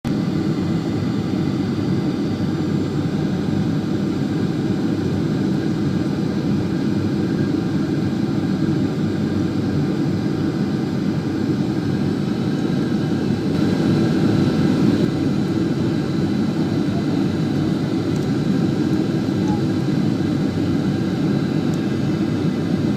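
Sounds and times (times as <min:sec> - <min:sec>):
jet engines droning: 0:00.1 - 0:22.9.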